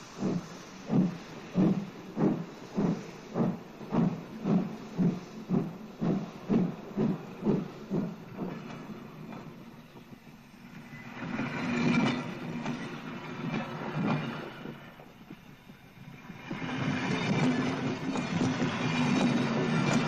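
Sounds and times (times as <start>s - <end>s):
steam locomotive chuffing: 0.0s - 20.0s
train wagons rolling past: 0.0s - 20.0s.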